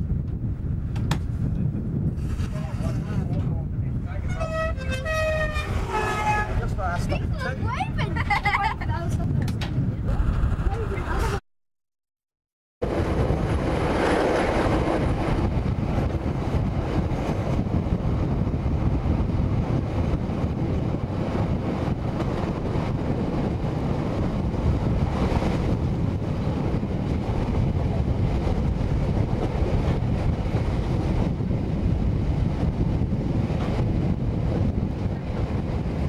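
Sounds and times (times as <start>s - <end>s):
train wheels rumbling on rails: 0.0s - 11.4s, 12.8s - 36.0s
wind rushing over microphone: 0.0s - 11.4s, 12.8s - 36.0s.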